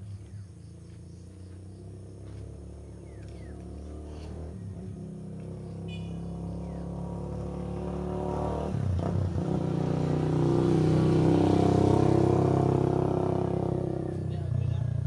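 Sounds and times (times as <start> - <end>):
vehicle engine passing by: 0.0 - 15.0.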